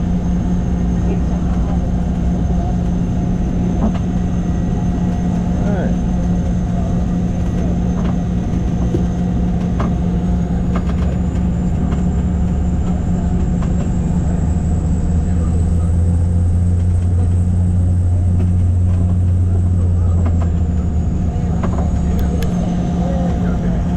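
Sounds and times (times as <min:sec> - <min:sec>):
small aircraft engine running: 0:00.0 - 0:23.9.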